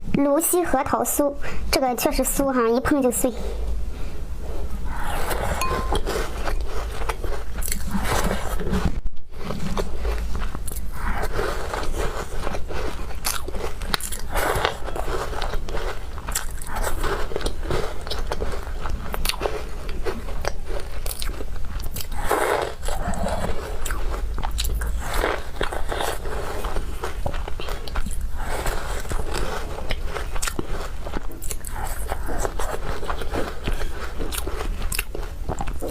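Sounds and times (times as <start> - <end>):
chewing crunchy cookies: 4.9 - 35.9.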